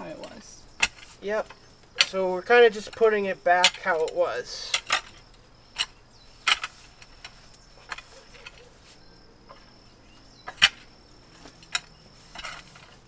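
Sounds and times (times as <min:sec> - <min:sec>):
pitchfork tines clicking and scraping: 0:00.0 - 0:13.0.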